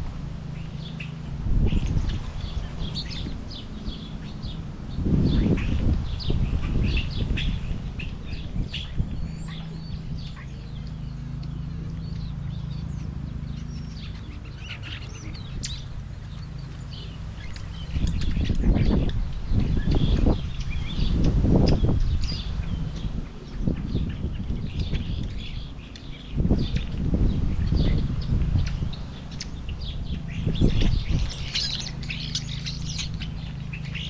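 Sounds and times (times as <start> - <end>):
low rumbling: 0.0 - 34.0
low steady hum: 0.0 - 34.0
small birds chirping: 0.0 - 34.0.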